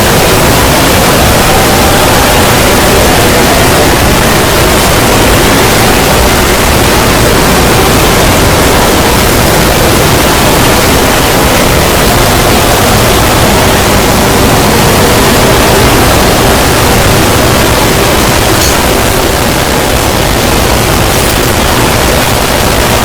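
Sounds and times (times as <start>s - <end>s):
harsh static noise: 0.0s - 23.0s.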